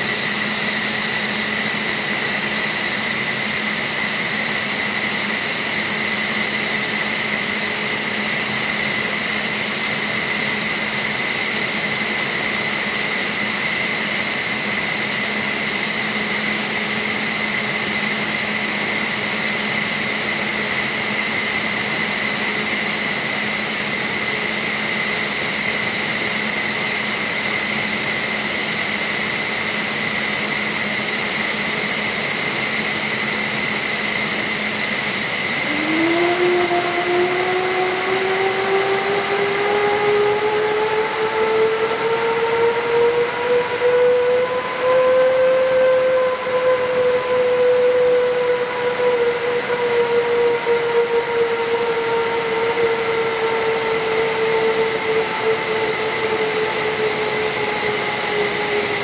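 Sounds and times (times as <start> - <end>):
jet engine spooling up: 0.0 - 59.0
turbine whine with hissing: 0.0 - 59.0.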